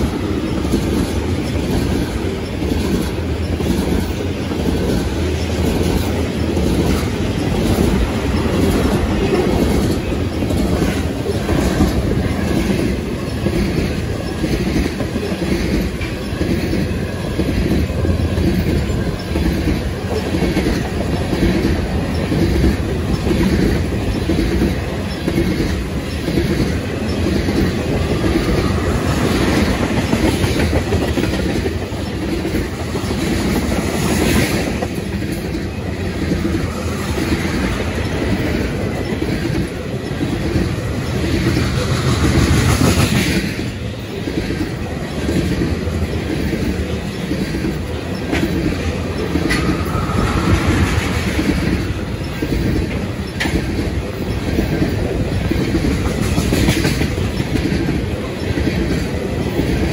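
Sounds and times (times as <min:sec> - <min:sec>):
freight train rumbling past: 0:00.0 - 0:59.9
train wheels clickety-clack: 0:00.0 - 0:59.9.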